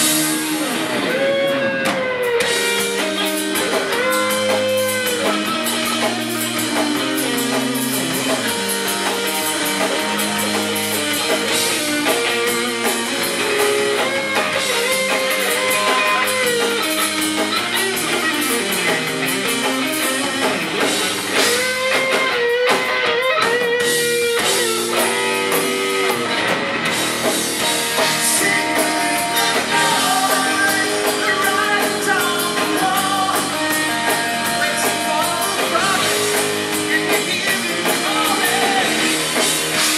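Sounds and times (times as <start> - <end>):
electric guitar lead with bent notes: 0.0 - 39.9
rock band playing loudly: 0.0 - 39.9.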